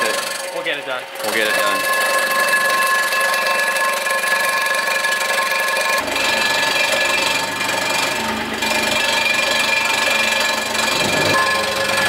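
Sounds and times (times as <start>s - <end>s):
milling machine cutting metal: 0.0s - 12.0s.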